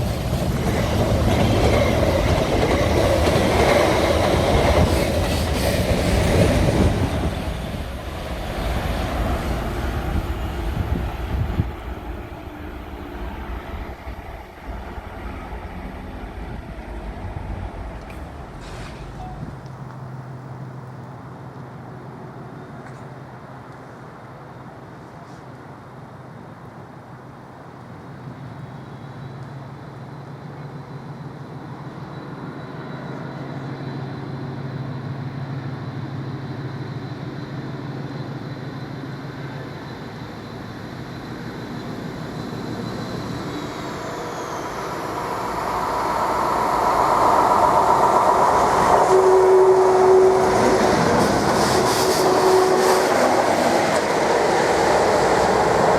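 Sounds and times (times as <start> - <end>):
train engine hum: 0.0 - 55.9.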